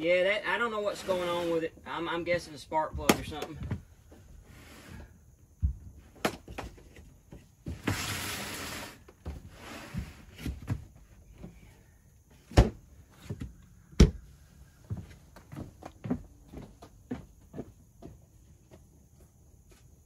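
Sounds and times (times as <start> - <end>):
footsteps on porch floor: 1.0 - 20.0.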